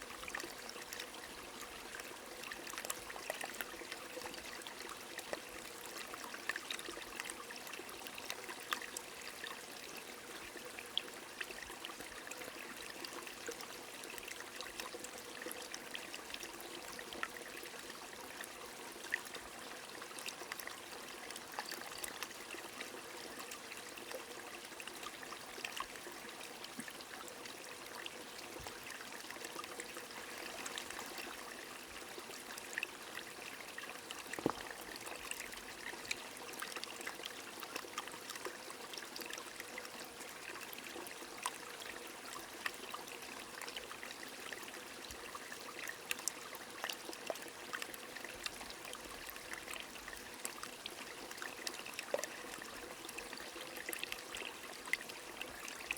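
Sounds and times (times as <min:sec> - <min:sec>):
stream trickling: 0:00.0 - 0:55.9.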